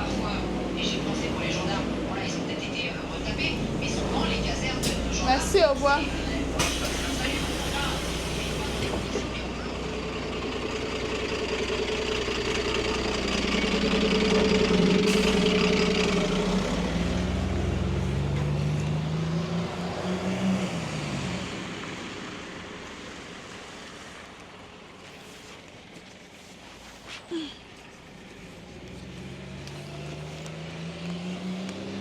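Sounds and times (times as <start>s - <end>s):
bus engine accelerating: 0.0s - 32.0s.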